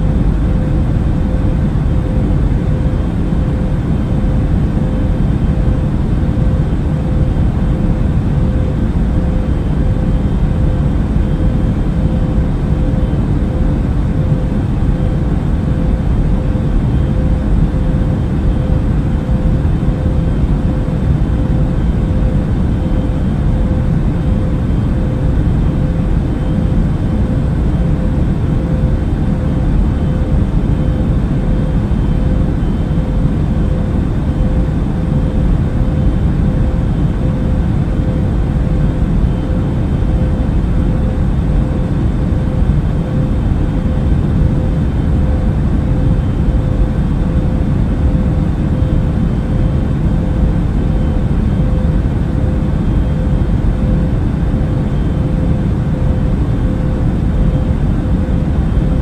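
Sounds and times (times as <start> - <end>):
airliner cabin rumble: 0.0 - 59.0
faint steady hum: 0.0 - 59.0.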